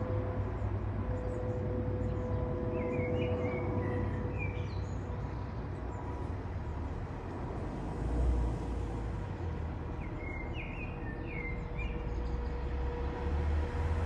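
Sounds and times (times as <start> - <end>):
jet airliner flying overhead: 0.0 - 10.2, 11.0 - 14.0.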